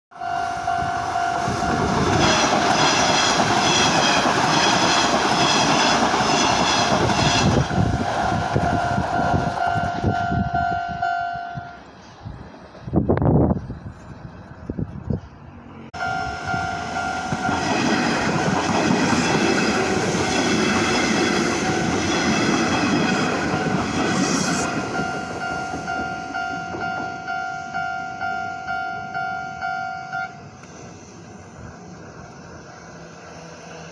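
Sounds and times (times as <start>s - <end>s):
crossing warning bells dinging: 0.1s - 13.0s, 16.0s - 30.7s
train rumbling with wheel clatter: 0.2s - 33.9s.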